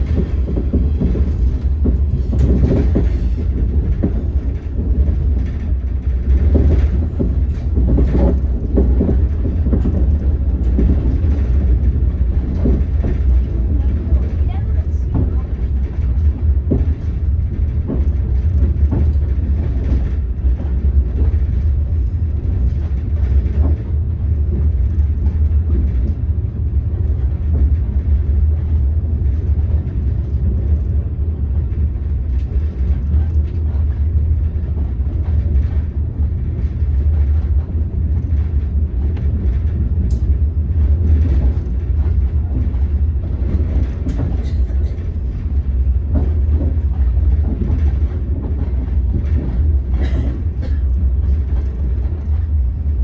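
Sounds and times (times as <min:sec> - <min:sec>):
train coach rumbling on track: 0:00.0 - 0:53.0.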